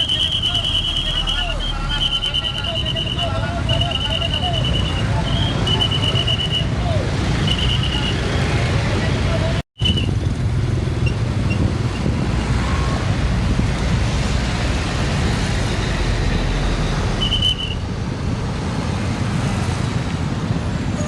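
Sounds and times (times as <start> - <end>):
diesel engines rumbling: 0.0 - 21.0
heavy trucks passing: 0.0 - 21.0.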